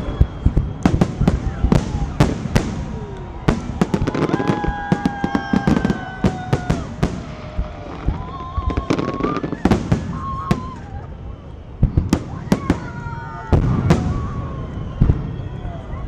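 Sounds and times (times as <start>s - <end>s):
fireworks bangs and crackles: 0.0s - 16.0s
fireworks whistling: 0.0s - 16.0s.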